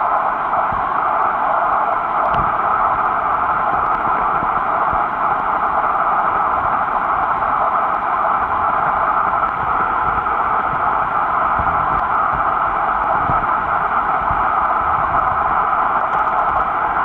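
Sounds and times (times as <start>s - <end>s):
underwater hiss: 0.0s - 17.0s.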